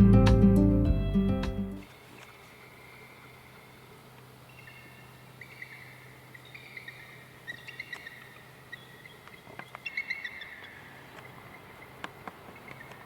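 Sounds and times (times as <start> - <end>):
birds chirping: 1.7 - 13.0.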